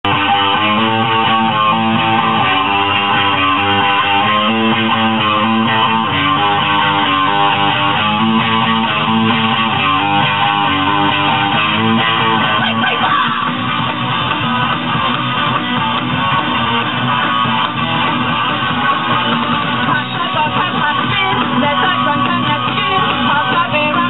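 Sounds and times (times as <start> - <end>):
band playing a song: 0.0 - 24.0
bass guitar: 0.0 - 24.0
strummed guitars: 0.0 - 24.0.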